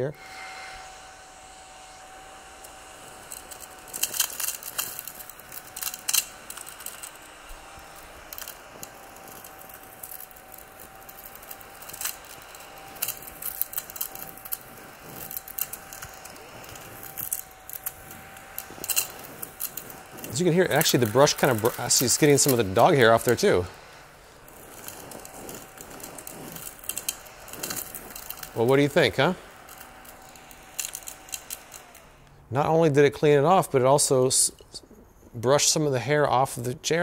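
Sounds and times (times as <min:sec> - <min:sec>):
mini vacuum whining: 0:00.0 - 0:35.8
crumbs crackling in vacuum: 0:01.2 - 0:37.0.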